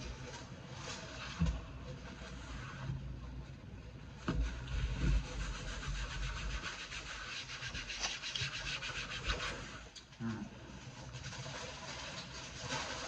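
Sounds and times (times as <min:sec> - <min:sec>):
paper napkin rubbing and crumpling: 0:00.0 - 0:03.0, 0:04.6 - 0:09.9, 0:10.7 - 0:13.0.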